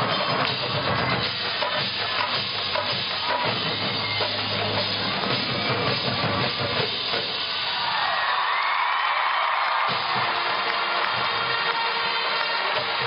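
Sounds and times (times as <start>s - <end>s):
drumline and percussion: 0.0s - 13.0s
marching band brass: 0.0s - 13.0s.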